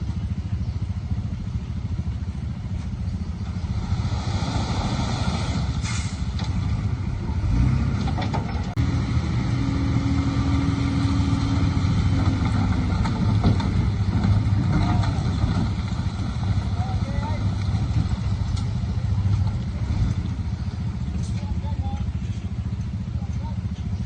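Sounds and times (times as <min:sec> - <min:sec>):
heavy machine engine rumbling: 0:00.0 - 0:24.0.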